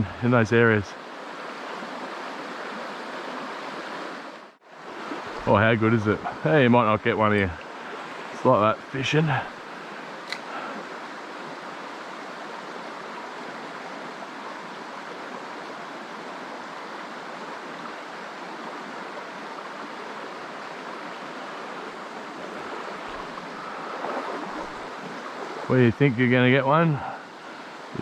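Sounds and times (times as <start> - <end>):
creek flowing over rocks: 0.0 - 28.0.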